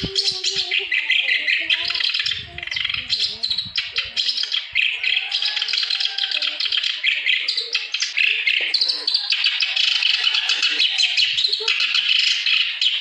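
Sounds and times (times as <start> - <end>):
reed warbler singing: 0.0 - 13.0.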